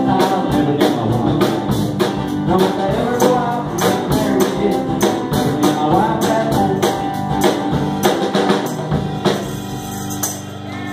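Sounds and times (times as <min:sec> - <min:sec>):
drum kit beat: 0:00.0 - 0:10.9
second guitar: 0:00.0 - 0:10.9
strummed acoustic guitar: 0:00.0 - 0:10.9.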